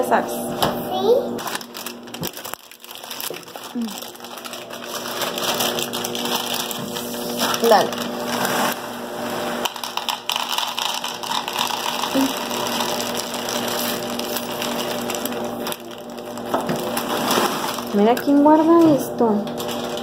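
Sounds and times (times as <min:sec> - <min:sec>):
cereal rattling into plastic cup: 0:01.4 - 0:08.8, 0:09.5 - 0:18.4, 0:19.5 - 0:20.0
plastic bag crinkling: 0:01.4 - 0:18.8, 0:19.5 - 0:20.0.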